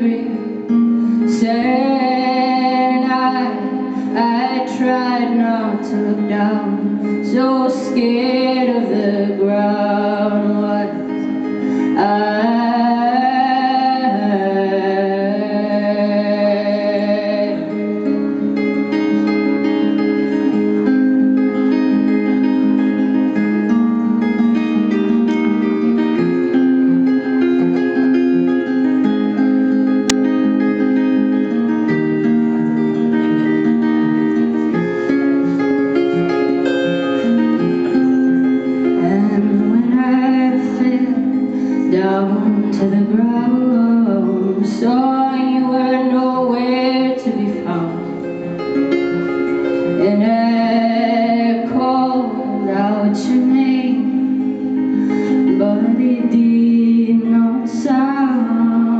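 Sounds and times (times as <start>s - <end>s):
acoustic guitar picking: 0.0s - 58.9s
person singing: 0.0s - 58.9s.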